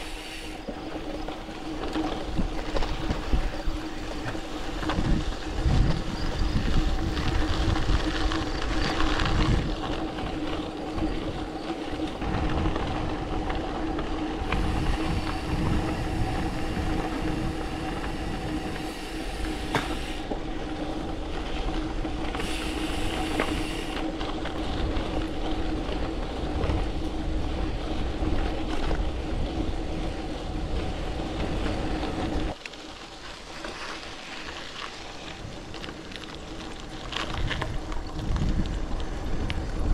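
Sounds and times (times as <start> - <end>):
steady hum: 0.0 - 32.5
bike tyres crunching on gravel: 0.0 - 39.9
wind buffeting microphone: 0.1 - 32.6, 35.2 - 39.9.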